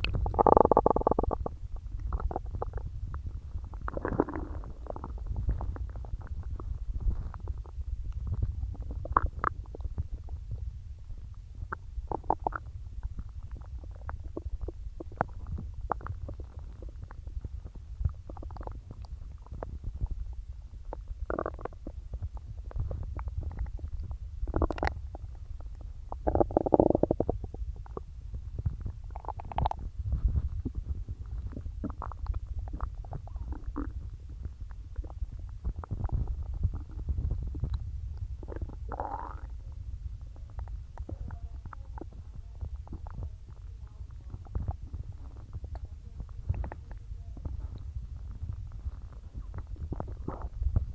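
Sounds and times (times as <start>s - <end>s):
low stomach rumble: 0.0s - 50.9s
stomach gurgling: 0.0s - 50.9s.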